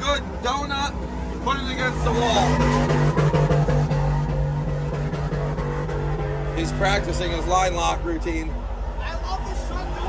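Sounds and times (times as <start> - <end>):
truck engine at high revs: 0.0 - 10.0.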